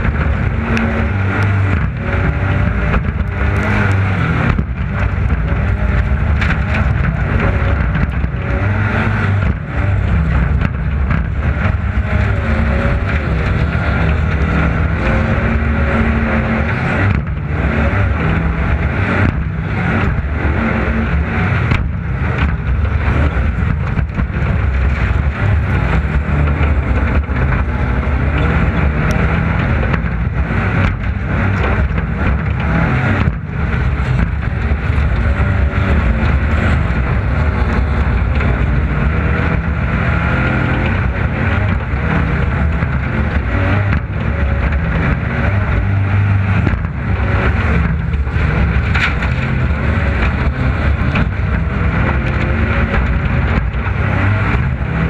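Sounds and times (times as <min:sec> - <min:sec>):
racing engine running hard: 0:00.0 - 0:55.0
wind and road noise: 0:00.0 - 0:55.0.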